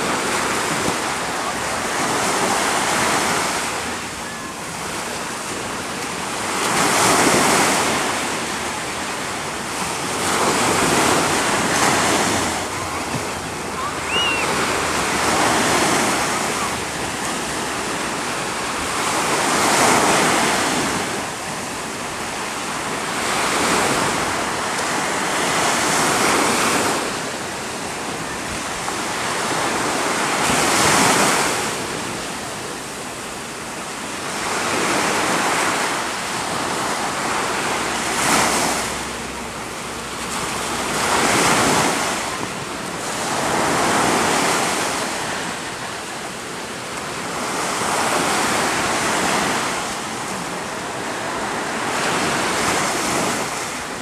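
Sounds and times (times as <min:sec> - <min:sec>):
waves breaking: 0:00.0 - 0:54.0.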